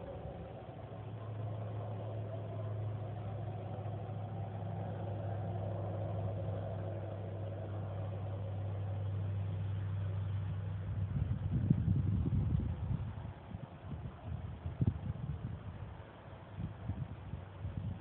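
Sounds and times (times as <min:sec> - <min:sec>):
low droning hum: 0:00.0 - 0:18.0.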